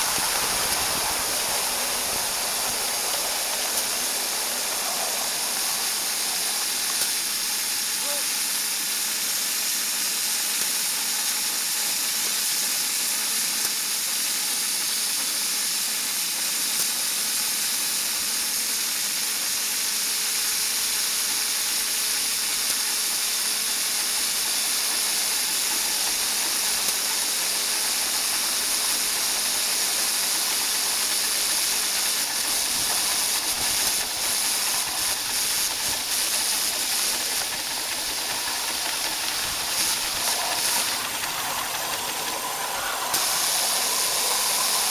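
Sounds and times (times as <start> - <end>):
steam hissing: 0.0 - 44.9.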